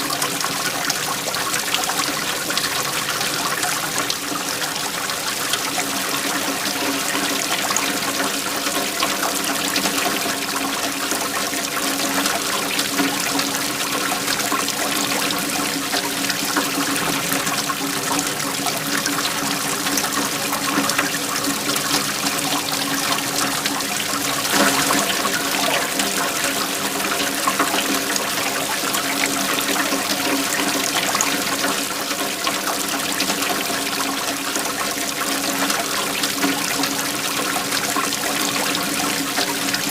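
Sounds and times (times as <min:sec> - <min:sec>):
waterfall rushing: 0:05.8 - 0:38.0.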